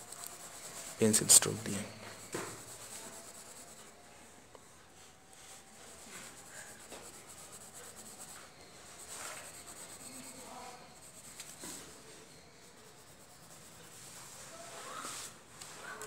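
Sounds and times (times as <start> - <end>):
pencil scratching on paper: 0.0 - 4.0, 5.4 - 15.2.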